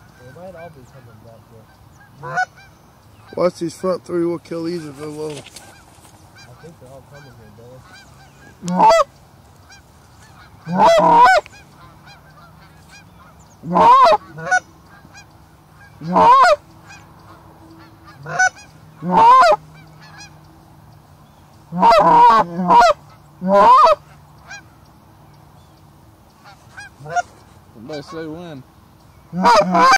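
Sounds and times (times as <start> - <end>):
goose honking: 0.0 - 24.9, 26.3 - 28.6, 29.3 - 29.9.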